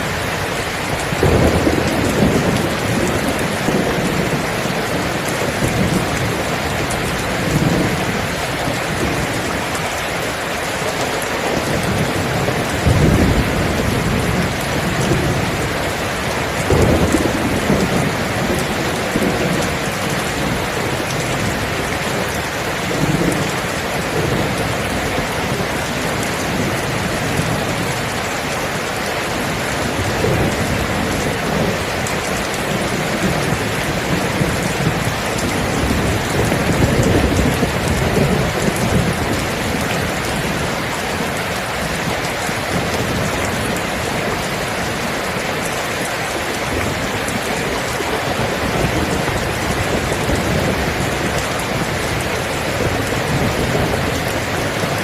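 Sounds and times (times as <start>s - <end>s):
low thunder rumbling: 0.0s - 9.8s, 10.4s - 28.7s, 29.3s - 45.8s, 46.4s - 55.0s
rain pouring: 0.0s - 55.0s.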